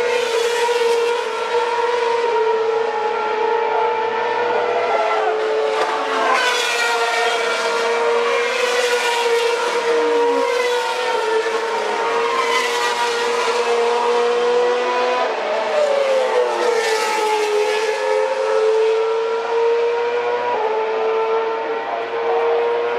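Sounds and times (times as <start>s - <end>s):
race cars passing at high revs: 0.0s - 22.9s.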